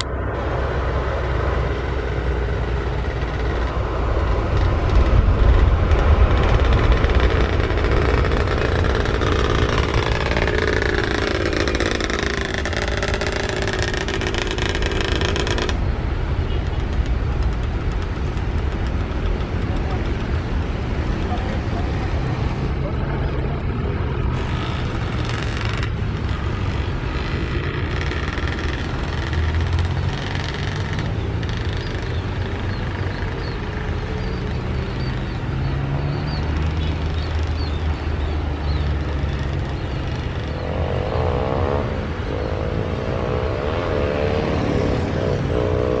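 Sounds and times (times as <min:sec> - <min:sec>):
low engine rumble: 0:00.0 - 0:46.0.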